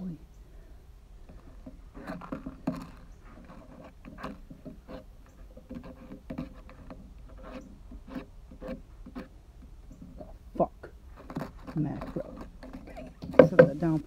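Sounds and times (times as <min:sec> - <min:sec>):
hands handling objects: 0:01.2 - 0:14.0.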